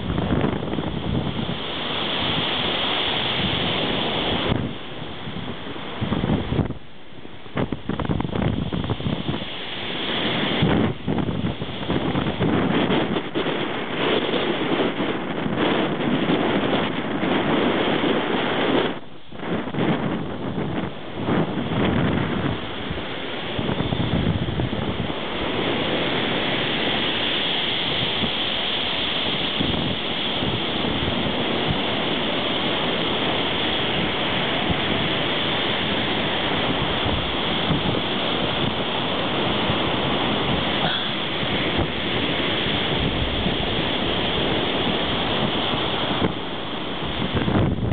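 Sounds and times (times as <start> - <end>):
surf rushing: 0.0 - 47.9
wind buffeting microphone: 0.0 - 47.9.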